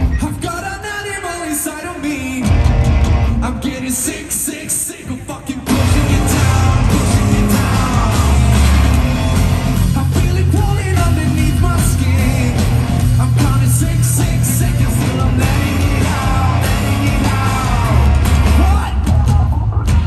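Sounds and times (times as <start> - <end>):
live rock band playing: 0.0 - 20.0
person singing: 3.4 - 20.0.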